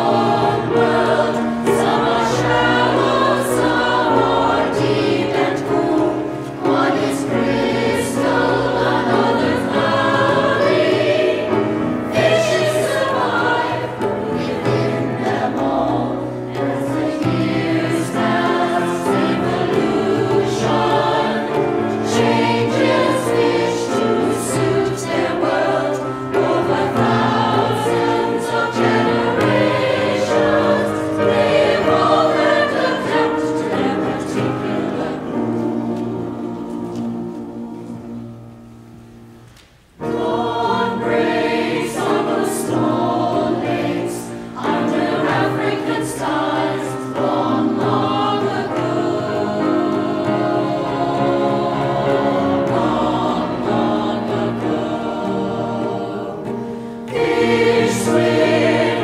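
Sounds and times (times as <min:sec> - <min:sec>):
choir singing: 0:00.0 - 0:39.4, 0:40.0 - 0:59.0.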